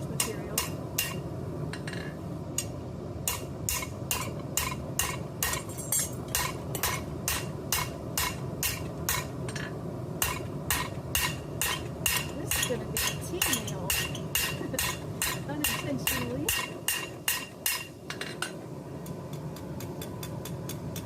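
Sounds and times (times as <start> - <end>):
hammer striking steel on anvil: 0.2 - 1.2, 1.8 - 21.0.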